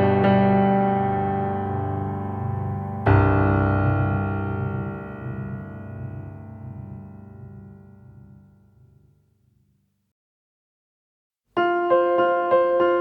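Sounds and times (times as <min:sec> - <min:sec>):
electric piano chords: 0:00.0 - 0:09.0, 0:11.6 - 0:13.0.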